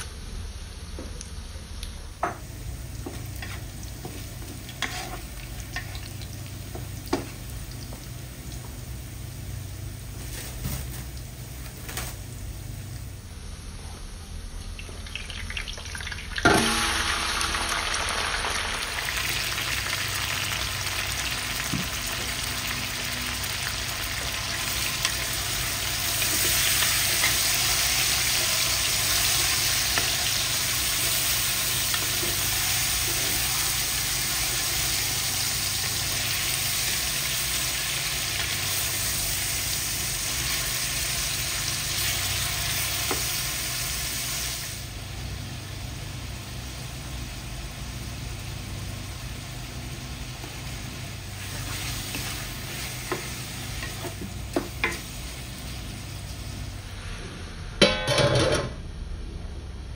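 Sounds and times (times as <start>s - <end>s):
chicken frying in hot oil: 2.2s - 12.8s, 14.6s - 57.2s.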